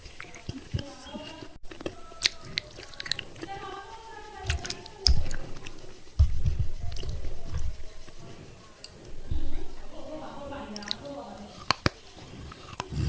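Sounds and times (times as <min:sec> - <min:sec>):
heavy chewing: 0:00.0 - 0:13.0.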